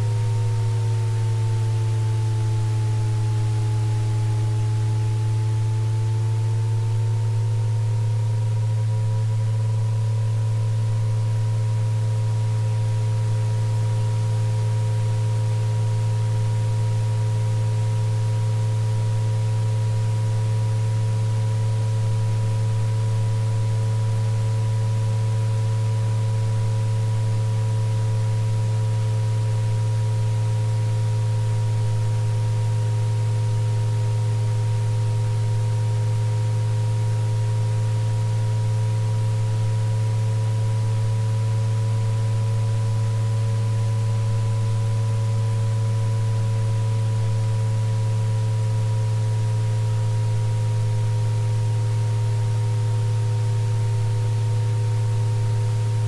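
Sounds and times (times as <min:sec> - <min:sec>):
loud steady low hum: 0:00.0 - 0:56.0.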